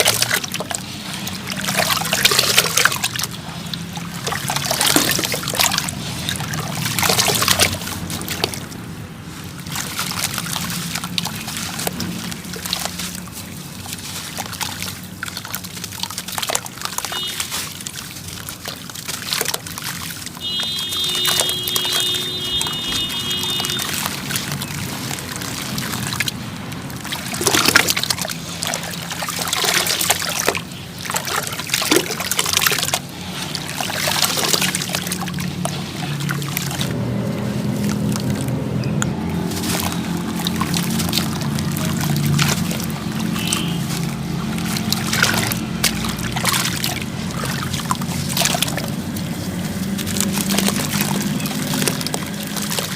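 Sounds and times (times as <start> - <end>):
water trickling and splashing: 0.0 - 52.9
wet cement chunks crunching: 0.0 - 52.9.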